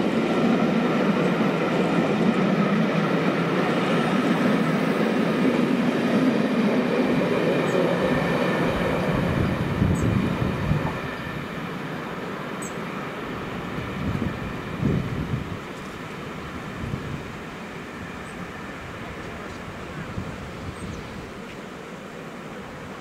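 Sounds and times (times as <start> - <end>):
train wheels rumbling on rail: 0.0 - 21.7.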